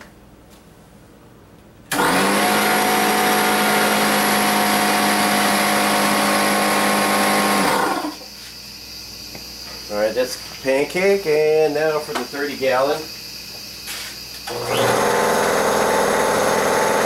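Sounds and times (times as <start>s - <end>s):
air compressor running: 1.9s - 17.0s.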